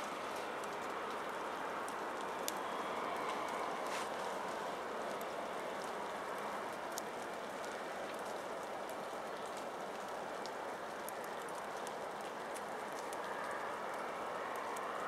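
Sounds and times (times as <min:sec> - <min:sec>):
rushing outdoor background noise: 0:00.0 - 0:15.0
faint ticks: 0:00.3 - 0:14.9.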